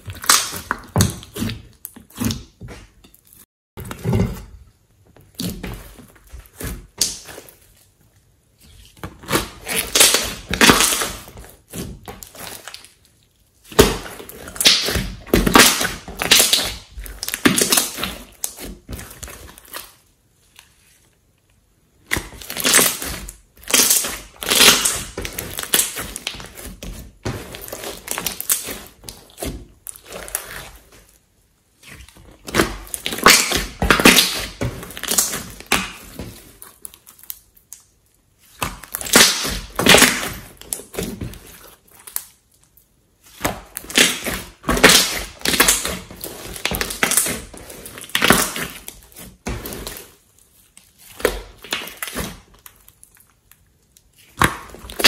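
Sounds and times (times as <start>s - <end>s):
hands squishing slime: 0.0s - 3.4s, 5.3s - 21.0s, 22.0s - 55.0s.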